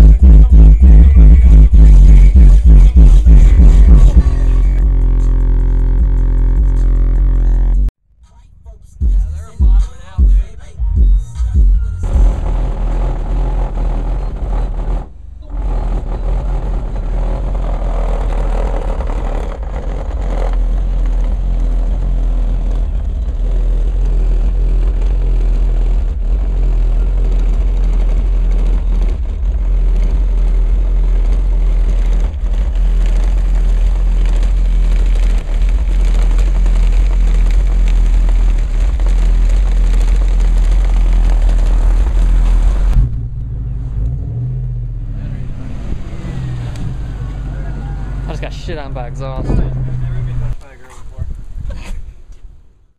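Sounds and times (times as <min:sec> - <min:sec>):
car subwoofers playing deep bass: 0:00.0 - 0:52.9.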